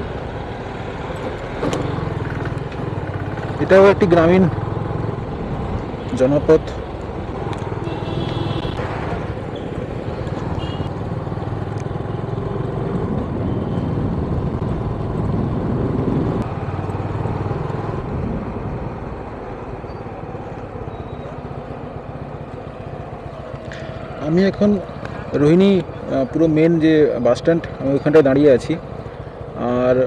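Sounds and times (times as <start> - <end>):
road and wind noise: 0.0 - 30.0
motorcycle engine running: 0.4 - 30.0.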